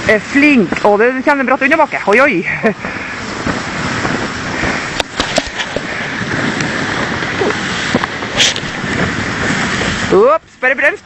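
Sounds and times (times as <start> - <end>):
sled runners rushing over snow: 0.0 - 11.0
wind on microphone: 0.0 - 11.0.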